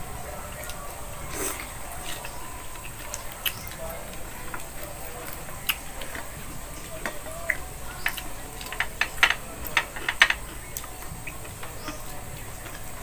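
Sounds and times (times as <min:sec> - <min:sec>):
chewing and lip smacks: 0:00.4 - 0:13.0.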